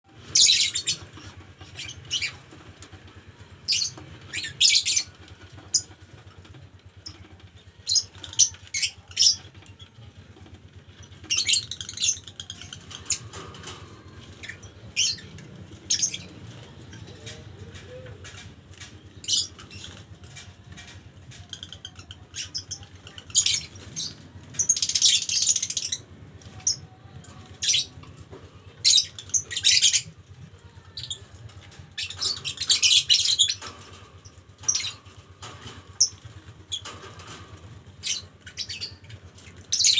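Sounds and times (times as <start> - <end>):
birds chirping and squawking: 0.1 - 39.9.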